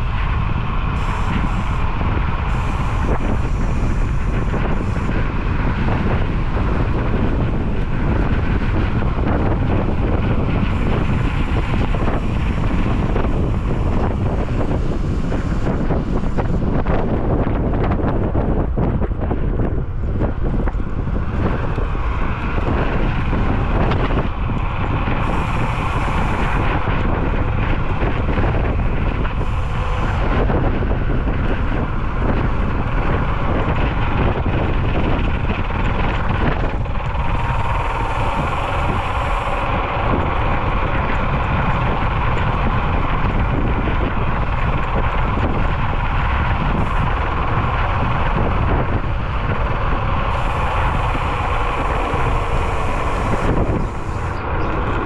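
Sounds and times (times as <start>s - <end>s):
electric scooter running: 0.0s - 55.0s
wind rushing over microphone: 0.0s - 55.0s.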